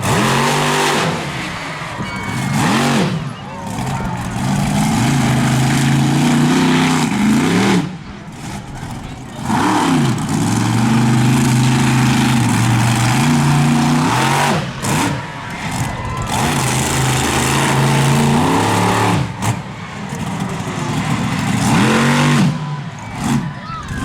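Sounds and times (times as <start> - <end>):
truck engine revving high: 0.0 - 24.0.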